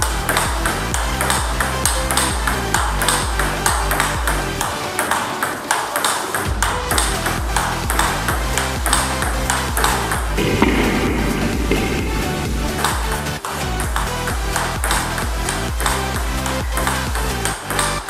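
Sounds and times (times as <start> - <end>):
electronic background music: 0.0 - 18.0
table tennis ball clicks: 0.2 - 18.0.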